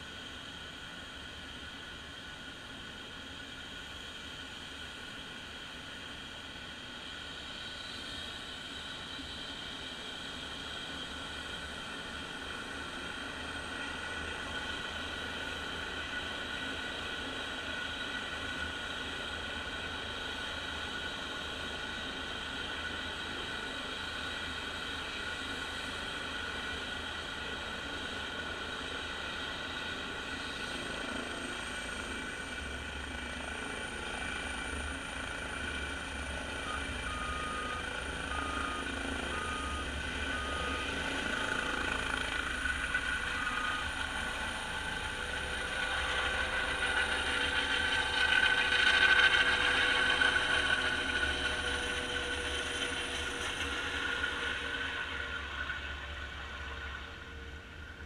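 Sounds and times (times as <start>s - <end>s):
helicopter taking off: 2.8s - 58.0s.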